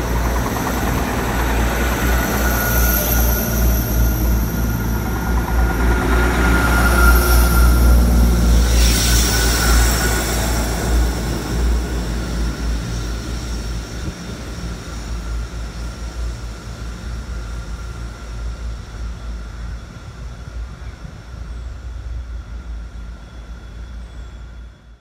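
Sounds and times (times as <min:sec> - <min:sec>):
high train whine: 0:00.0 - 0:25.0
train rumble: 0:00.0 - 0:25.0.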